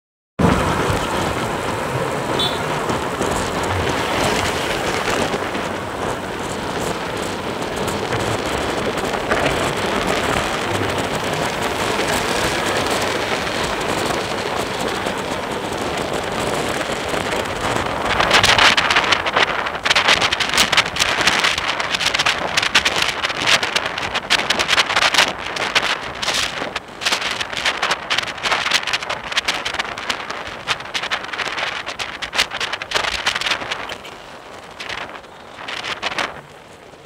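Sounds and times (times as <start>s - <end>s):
tyre and road noise: 0.4s - 37.0s
wind rushing over microphone: 0.4s - 37.0s.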